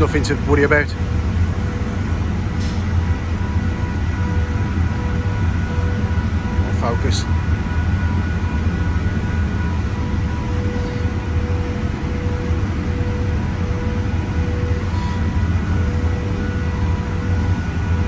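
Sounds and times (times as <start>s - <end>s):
machinery low hum: 0.0s - 18.0s
steady whining tones: 0.0s - 18.0s.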